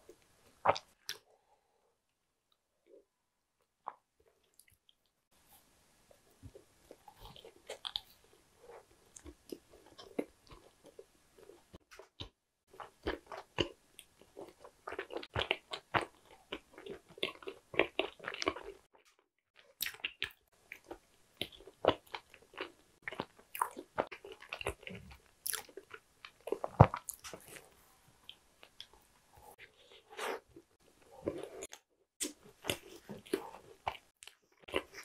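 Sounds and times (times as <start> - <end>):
chewing crunchy pastry: 6.4 - 35.0.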